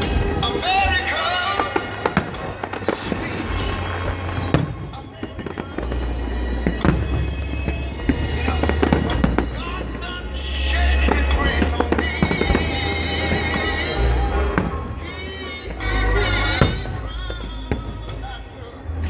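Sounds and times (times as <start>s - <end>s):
fireworks bangs and crackling: 0.0s - 19.0s
low rumble: 0.0s - 19.0s.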